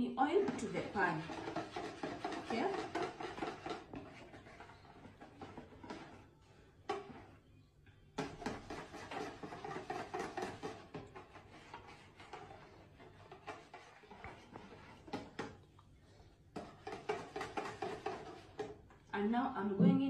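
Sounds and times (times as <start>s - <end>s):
whisk beating batter in bowl: 0.3s - 6.3s, 6.9s - 7.4s, 8.2s - 15.6s, 16.5s - 18.9s.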